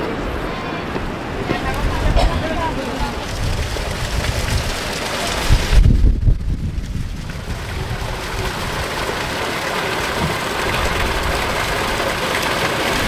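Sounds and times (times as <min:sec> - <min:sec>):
fountain water splashing into basin: 0:01.5 - 0:13.0.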